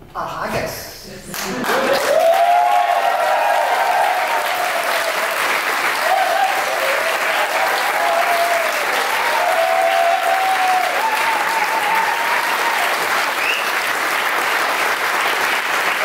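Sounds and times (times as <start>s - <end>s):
audience applauding: 1.3s - 16.0s.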